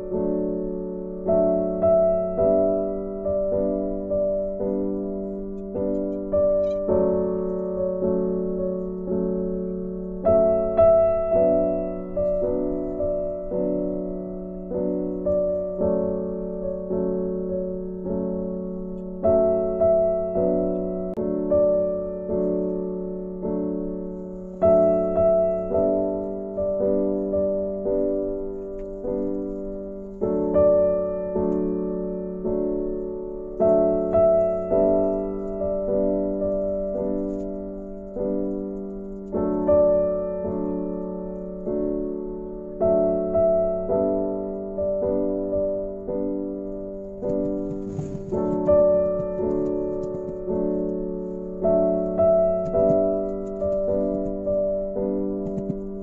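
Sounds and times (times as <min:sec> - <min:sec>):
slow soft piano music: 0:00.0 - 0:56.0.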